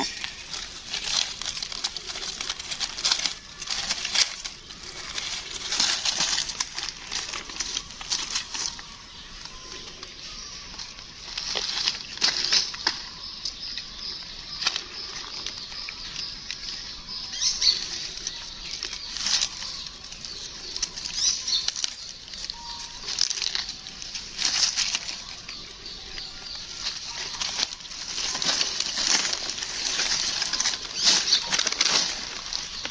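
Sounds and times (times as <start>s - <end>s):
small animals scrabbling: 0.0s - 32.9s.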